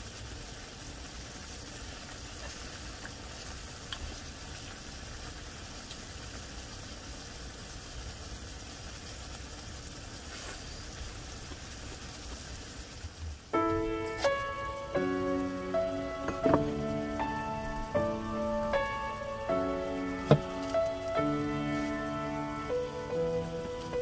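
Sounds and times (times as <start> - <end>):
food simmering: 0.0 - 24.0
gas burners hissing: 0.0 - 24.0.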